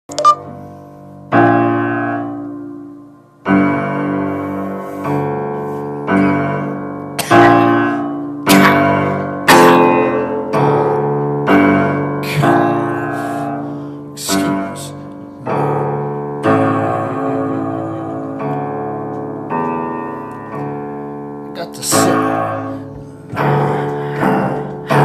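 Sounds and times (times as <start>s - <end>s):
keyboard playing slow chords: 0.1s - 25.0s.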